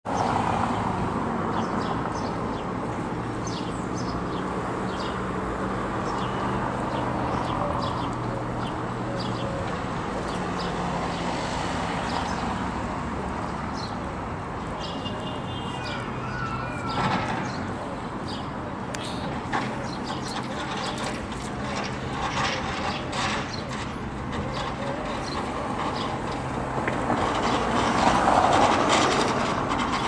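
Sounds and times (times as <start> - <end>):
hum of motor traffic: 0.0 - 30.0.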